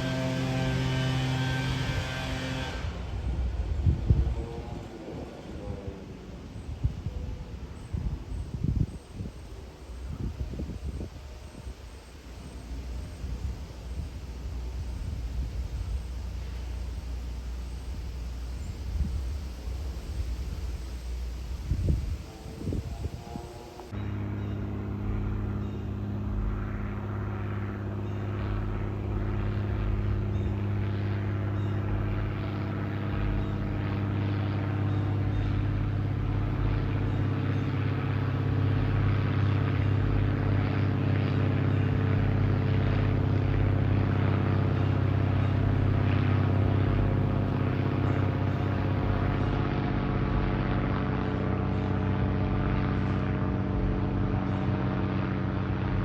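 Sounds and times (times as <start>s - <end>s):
aircraft droning past: 0.0s - 56.0s.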